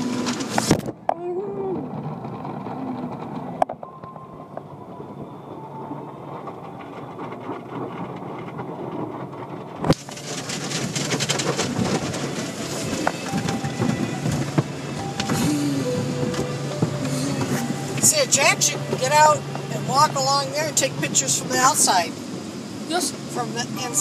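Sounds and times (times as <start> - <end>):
car wash machinery rumbling: 0.0 - 24.0.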